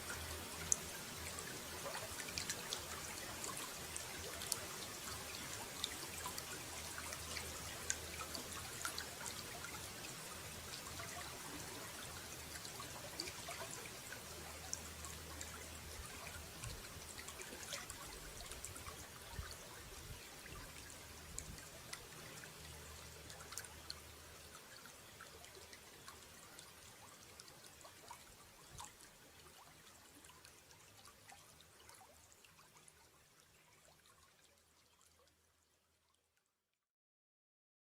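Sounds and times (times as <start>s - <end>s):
running water trickling: 0.0s - 35.8s.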